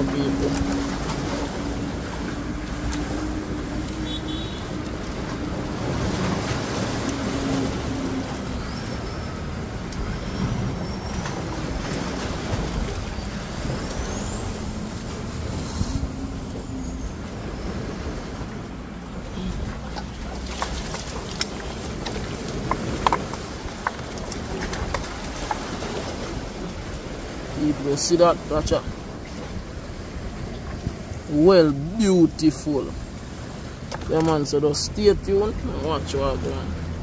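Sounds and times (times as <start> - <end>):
surf: 0.0 - 37.0
wind: 0.0 - 37.0.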